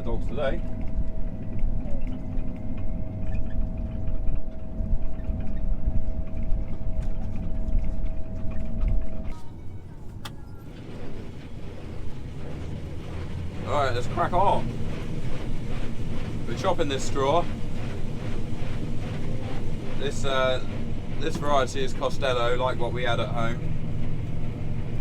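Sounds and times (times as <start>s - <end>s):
combine harvester engine rumble: 0.0s - 25.0s
steady whine: 0.0s - 25.0s.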